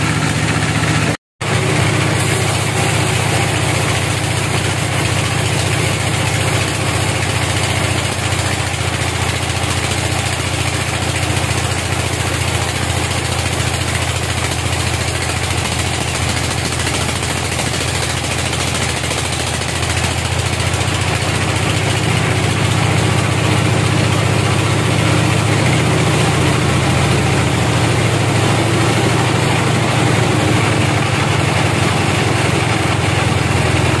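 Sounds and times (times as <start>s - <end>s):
band saw cutting log: 0.0s - 34.0s.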